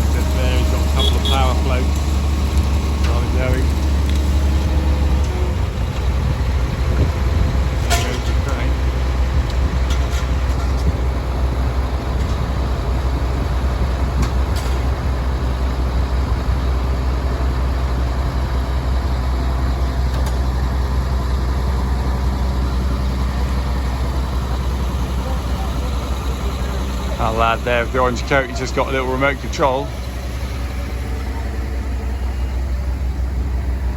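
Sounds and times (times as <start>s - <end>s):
heavy diesel engine humming: 0.0s - 33.9s.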